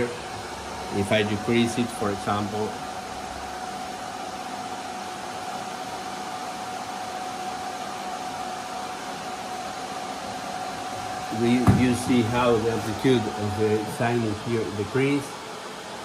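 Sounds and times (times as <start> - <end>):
cooling fans whooshing: 0.0 - 16.0.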